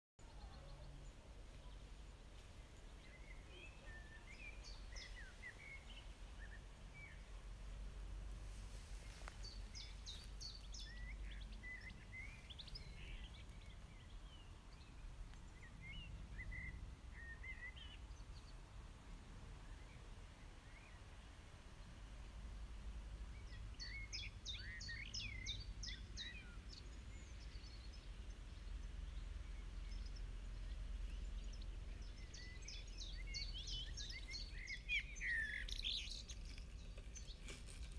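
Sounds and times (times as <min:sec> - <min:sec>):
small birds chirping: 0:00.2 - 0:18.8, 0:23.2 - 0:37.9
low steady rumble: 0:00.2 - 0:24.1, 0:25.6 - 0:37.9.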